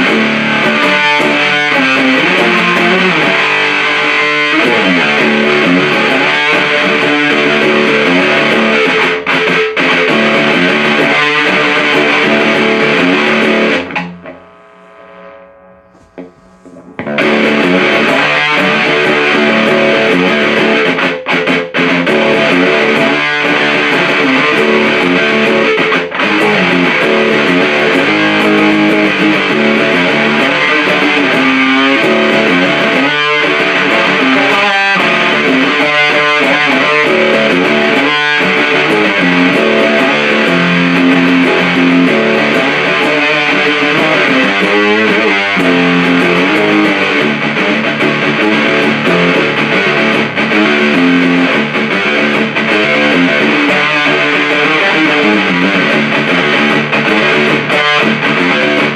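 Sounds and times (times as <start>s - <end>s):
fuzz distorted electric guitar: 0.0s - 58.9s.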